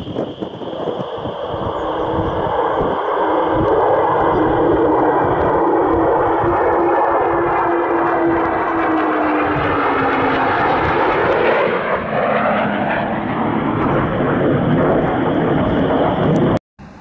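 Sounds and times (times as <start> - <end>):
fighter jet engines roaring: 0.0 - 17.0.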